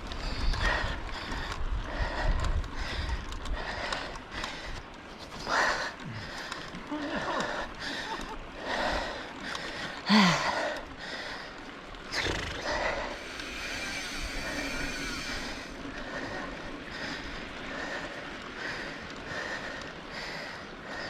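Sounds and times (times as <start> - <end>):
person breathing hard: 0.1 - 11.7, 12.6 - 21.0.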